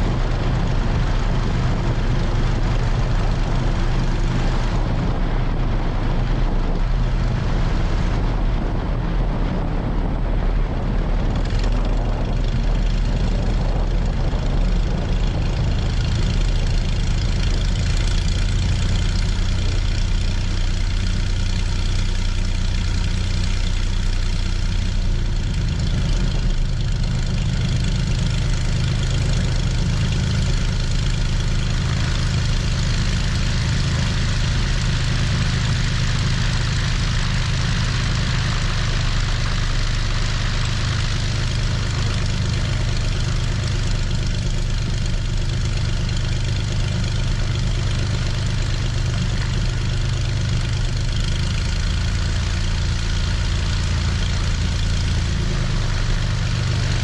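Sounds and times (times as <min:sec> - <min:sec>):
propeller plane engine running: 0:00.0 - 0:57.0.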